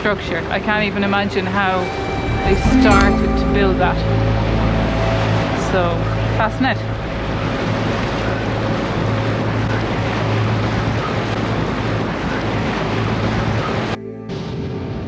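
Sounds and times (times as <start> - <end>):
boat engine running: 1.5 - 13.9.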